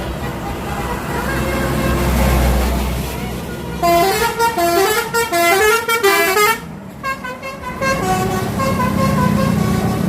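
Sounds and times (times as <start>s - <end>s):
bus engine hum: 0.0s - 10.0s
bus horn playing melody: 0.2s - 2.3s, 3.6s - 10.0s.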